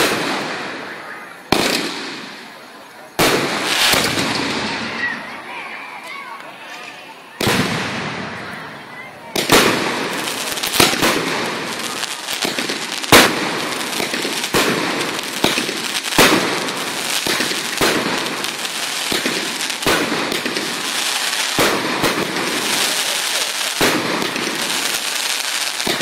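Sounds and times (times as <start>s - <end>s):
firework bangs: 0.0s - 5.6s, 6.8s - 26.0s
fireworks crackling: 0.0s - 26.0s.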